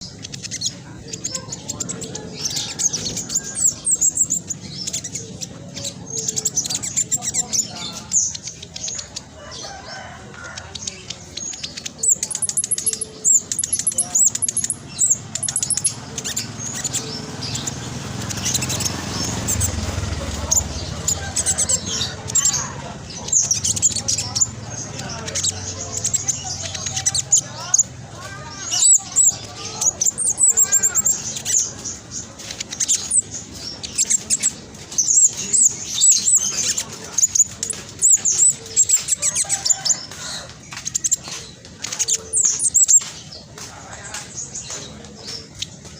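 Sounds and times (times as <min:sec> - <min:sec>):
bird chattering song: 0:00.0 - 0:45.9.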